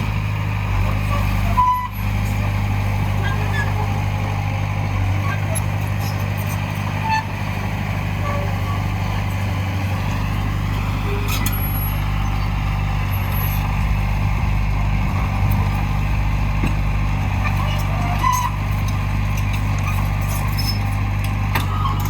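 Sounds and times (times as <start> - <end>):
diesel machinery engine drone: 0.0 - 22.0.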